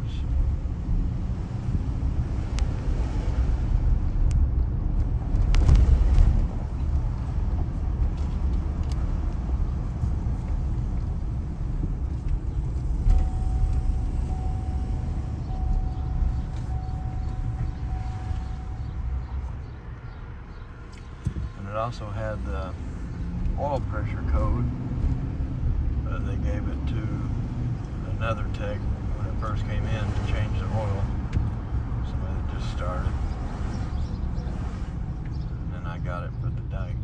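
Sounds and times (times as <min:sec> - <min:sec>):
car engine running: 0:00.0 - 0:36.9.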